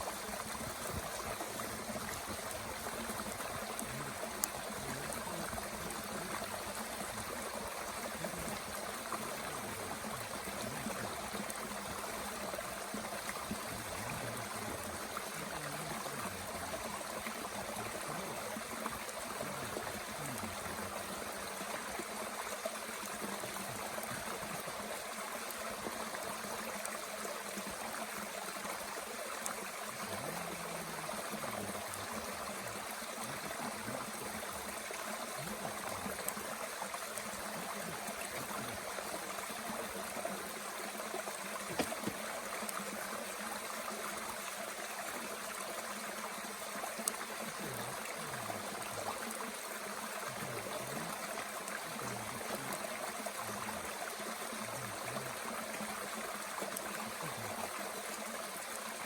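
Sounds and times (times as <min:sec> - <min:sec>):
mountain stream running: 0:00.0 - 0:59.0.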